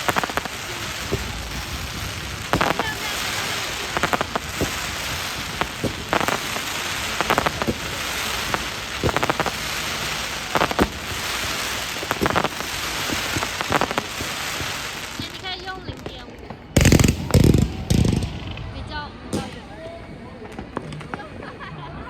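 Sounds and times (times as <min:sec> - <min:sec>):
fireworks crackling hiss: 0:00.0 - 0:19.8
fireworks cracks and pops: 0:00.0 - 0:19.8, 0:20.4 - 0:21.4.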